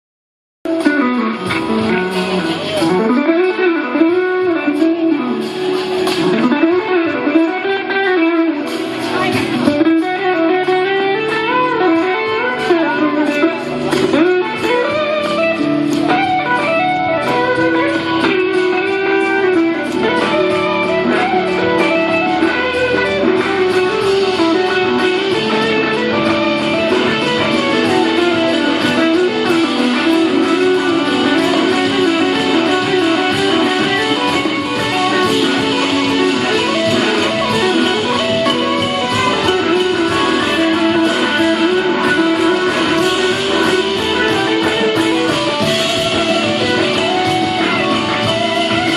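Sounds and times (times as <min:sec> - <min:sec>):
electric guitar: 0:00.6 - 0:48.9
blues-rock band playing live: 0:00.7 - 0:48.9.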